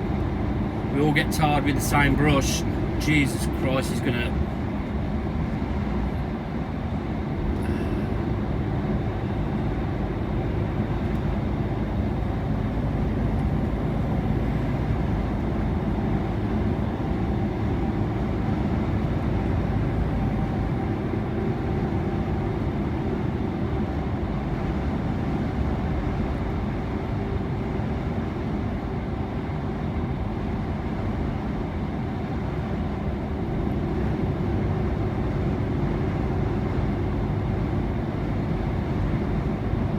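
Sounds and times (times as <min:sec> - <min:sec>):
lorry engine drone and road noise: 0:00.0 - 0:39.9.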